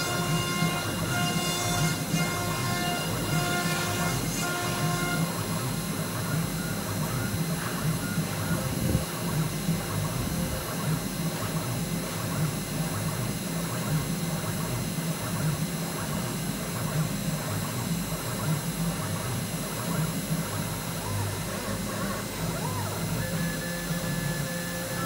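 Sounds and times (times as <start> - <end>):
cnc spindle milling with whine: 0.0 - 25.0.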